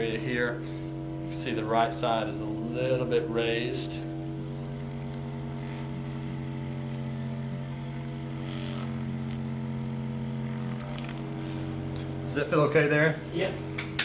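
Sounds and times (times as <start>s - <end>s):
low motor-like hum: 0.0s - 14.0s.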